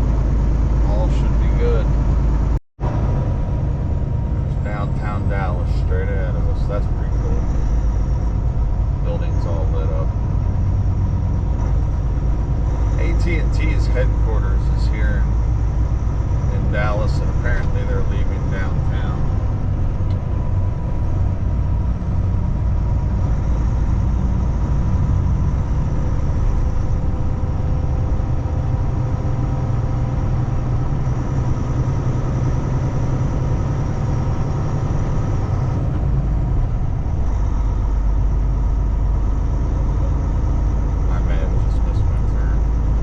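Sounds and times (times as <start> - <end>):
road noise: 0.0 - 43.0
truck engine drone: 0.0 - 43.0.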